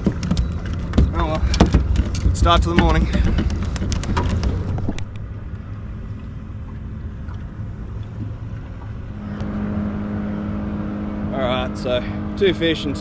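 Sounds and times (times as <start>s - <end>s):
motor hum: 0.0s - 13.0s
small boat rumbling: 0.0s - 13.0s.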